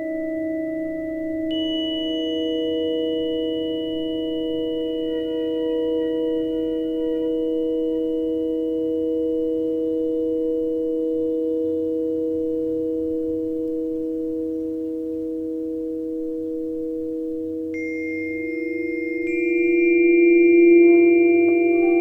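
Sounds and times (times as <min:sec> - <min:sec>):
held chord of pure tones: 0:00.0 - 0:22.0.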